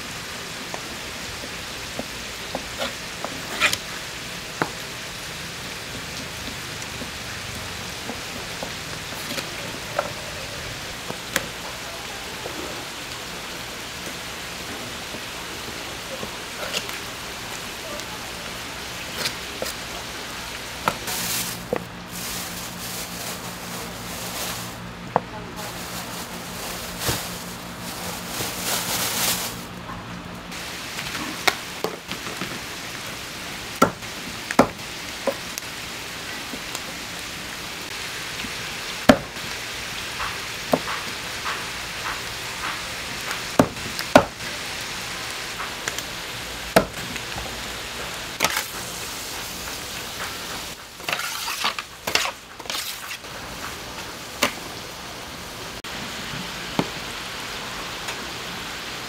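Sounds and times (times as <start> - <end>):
meat sizzling on griddle: 0.0 - 24.9, 30.5 - 55.0.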